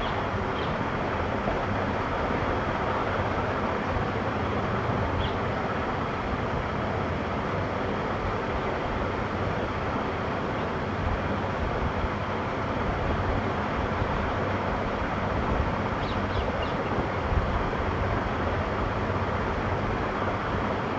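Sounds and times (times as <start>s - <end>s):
rushing outdoor noise: 0.0s - 20.9s.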